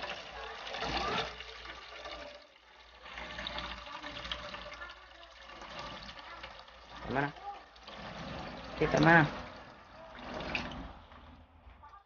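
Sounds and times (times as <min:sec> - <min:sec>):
water running into metal pot: 0:00.0 - 0:12.0.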